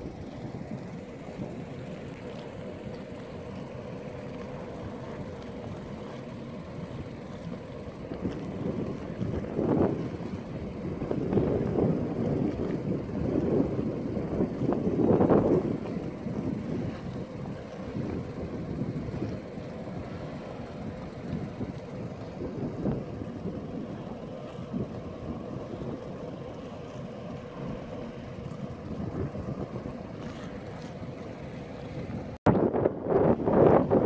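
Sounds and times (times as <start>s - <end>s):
low rumble: 0.0s - 34.0s
wind buffeting microphone: 4.3s - 34.0s.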